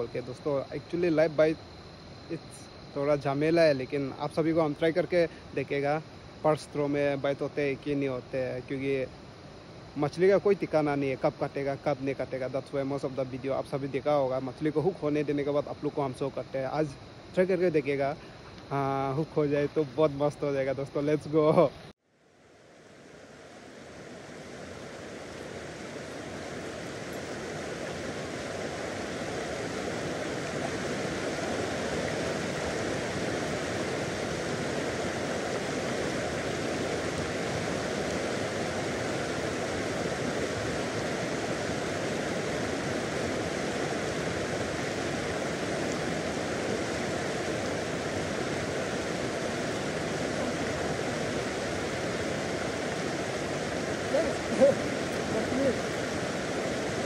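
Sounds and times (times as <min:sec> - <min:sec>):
rushing river water: 0:00.0 - 0:57.0.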